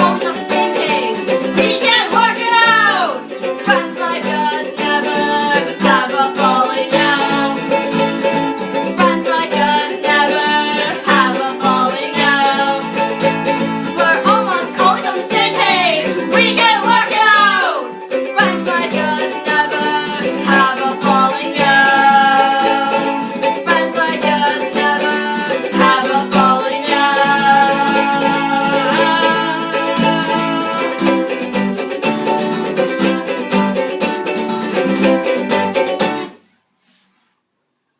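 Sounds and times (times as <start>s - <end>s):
band song with plucked strings: 0.0s - 36.5s.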